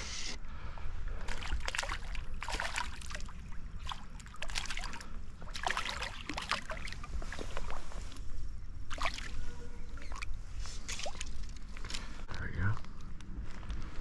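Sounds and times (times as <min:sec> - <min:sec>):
water splashing and sloshing: 0:00.7 - 0:12.3.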